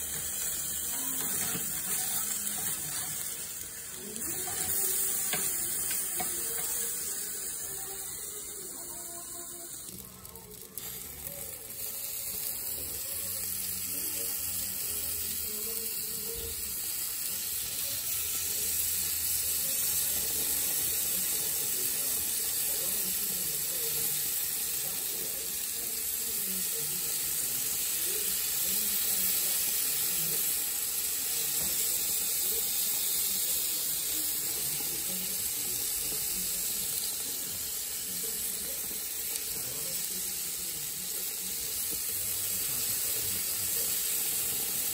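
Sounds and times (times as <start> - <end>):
chicken sizzling on a grill: 0.0 - 44.9.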